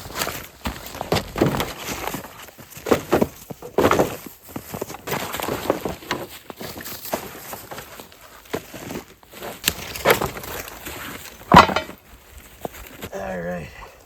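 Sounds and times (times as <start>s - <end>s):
crunching footsteps: 0.0s - 13.1s
handling noise: 0.1s - 12.9s.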